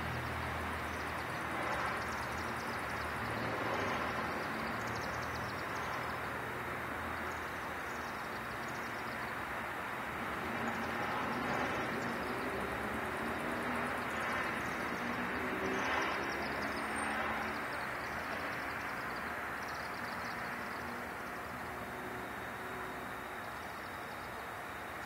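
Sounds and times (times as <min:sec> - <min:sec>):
background traffic hum: 0:00.0 - 0:25.0
swifts twittering: 0:00.0 - 0:25.0.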